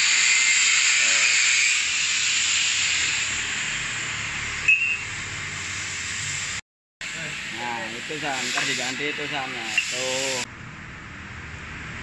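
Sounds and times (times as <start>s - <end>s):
gas cutting torch hissing: 0.0s - 10.5s.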